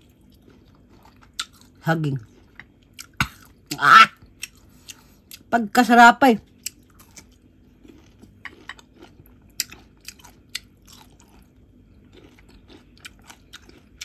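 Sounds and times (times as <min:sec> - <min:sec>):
chewing and crunching: 0:00.0 - 0:05.5, 0:06.4 - 0:14.0.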